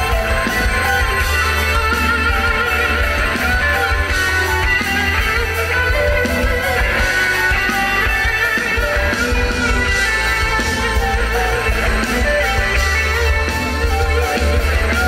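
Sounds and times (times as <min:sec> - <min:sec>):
electric guitar: 0:00.0 - 0:15.0.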